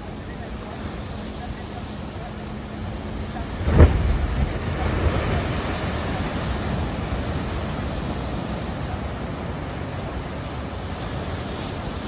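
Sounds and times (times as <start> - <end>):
heavy surf breaking: 0.0 - 12.0.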